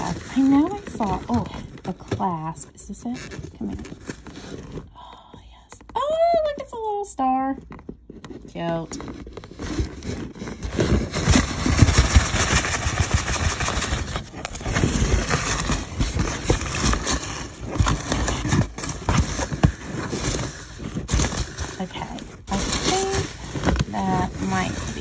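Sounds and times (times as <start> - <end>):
foam packing beads rustling: 0.0 - 25.0.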